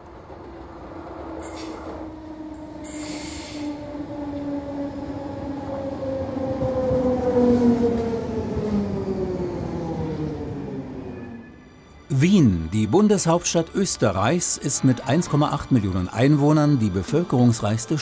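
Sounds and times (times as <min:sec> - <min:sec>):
electric train passing with whine: 0:00.0 - 0:18.0.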